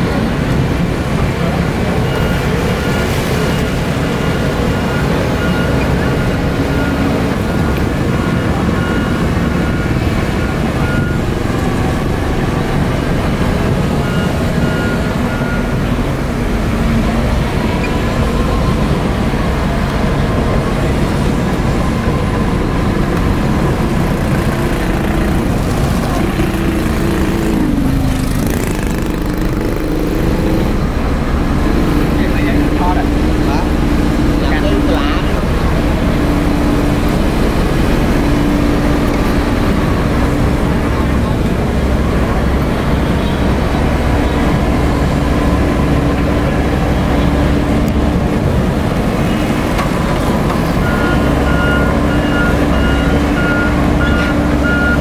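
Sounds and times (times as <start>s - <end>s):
heavy diesel engines: 0.0s - 55.0s.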